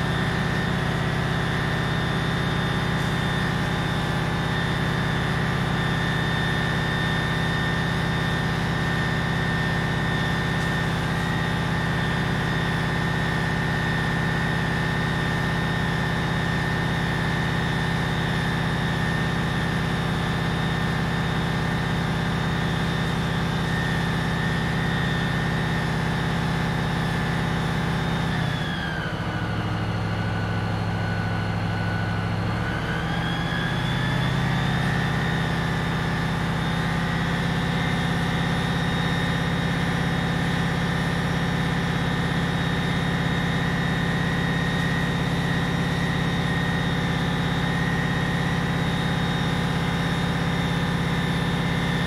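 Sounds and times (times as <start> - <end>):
fire engine running with whine: 0.0 - 52.0.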